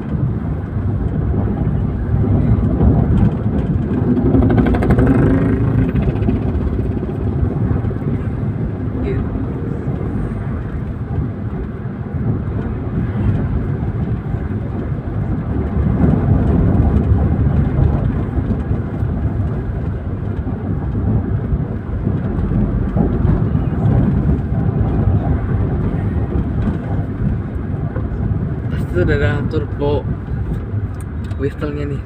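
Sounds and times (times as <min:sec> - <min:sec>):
car engine rumble: 0:00.0 - 0:32.0
tyre and wind noise: 0:00.0 - 0:32.0.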